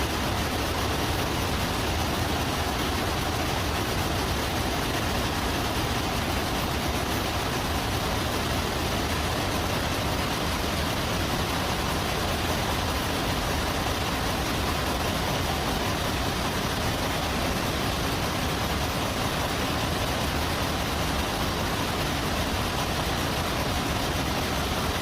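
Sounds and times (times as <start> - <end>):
motor running steadily: 0.0 - 25.0.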